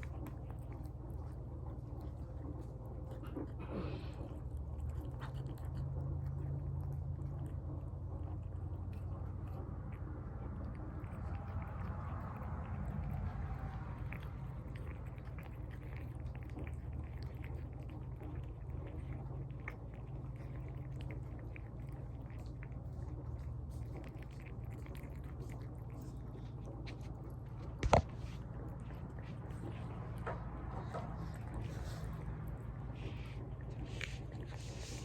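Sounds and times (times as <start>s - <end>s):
cat chewing and licking: 0.0s - 35.0s.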